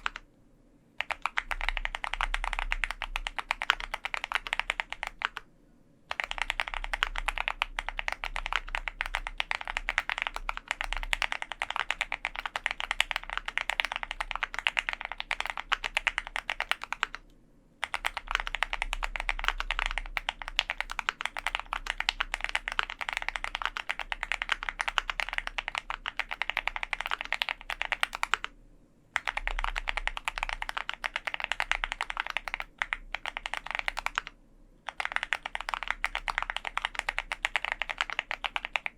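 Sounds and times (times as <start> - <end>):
mechanical keyboard typing: 0.0 - 0.2, 1.0 - 5.5, 6.1 - 28.6, 29.2 - 38.9.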